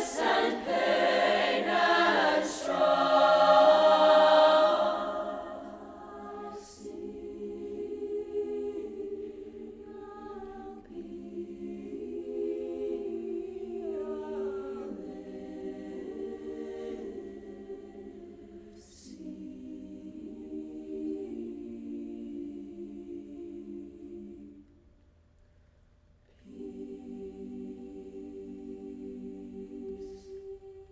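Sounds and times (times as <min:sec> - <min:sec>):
choir singing held chords: 0:00.0 - 0:24.7, 0:26.4 - 0:30.9.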